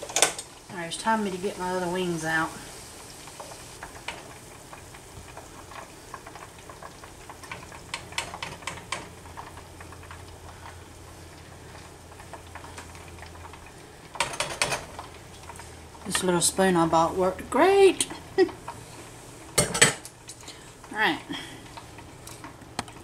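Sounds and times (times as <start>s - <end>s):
food frying in hot oil: 0.0s - 23.0s.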